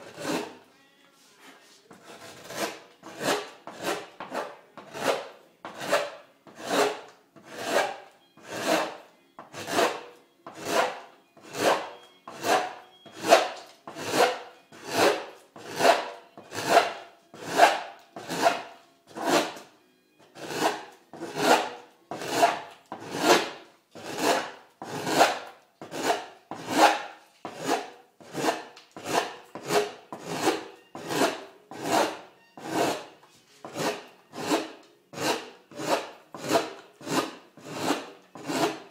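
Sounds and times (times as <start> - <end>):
gouge scraping wood: 0.0 - 0.6, 1.3 - 19.7, 20.3 - 38.9.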